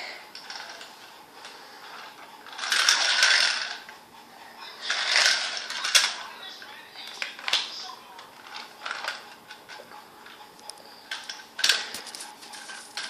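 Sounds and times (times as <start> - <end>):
toy train rattling: 0.3 - 4.0, 4.6 - 13.0.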